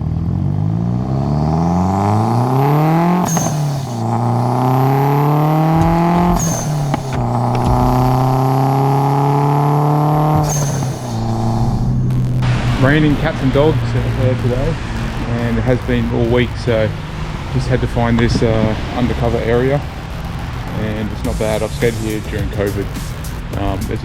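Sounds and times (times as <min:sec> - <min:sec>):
car engine accelerating through gears: 0:00.0 - 0:23.6.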